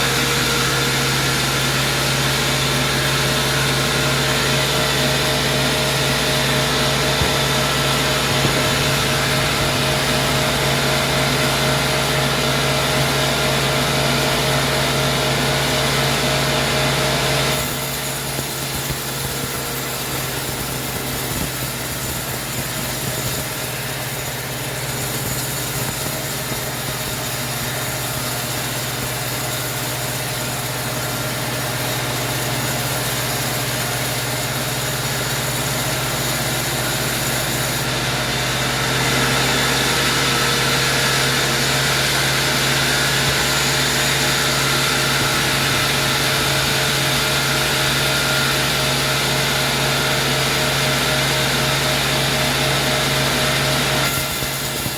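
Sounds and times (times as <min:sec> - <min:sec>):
sawmill machinery engine running: 0:00.0 - 0:54.9.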